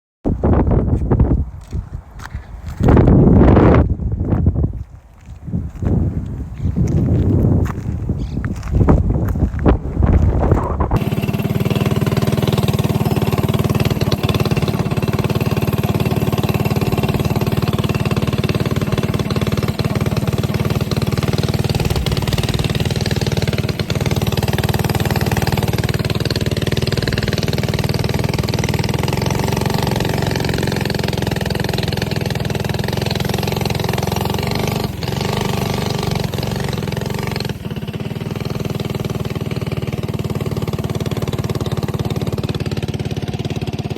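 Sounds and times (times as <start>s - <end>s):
small engine running: 8.6s - 43.9s.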